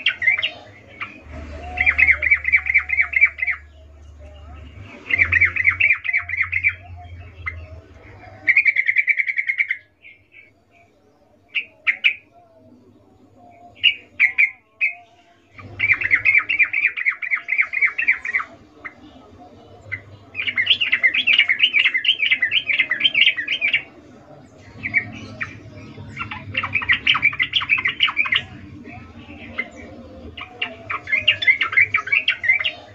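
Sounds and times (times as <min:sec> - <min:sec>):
bulbul chattering calls: 0:00.0 - 0:10.9, 0:13.4 - 0:32.9.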